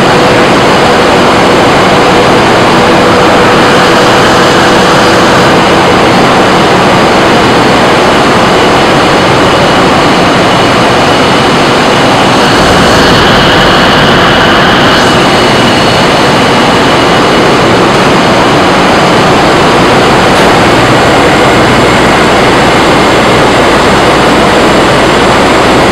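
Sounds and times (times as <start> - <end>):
engine room machinery din: 0.0 - 25.9
faint machinery whines: 0.0 - 25.9.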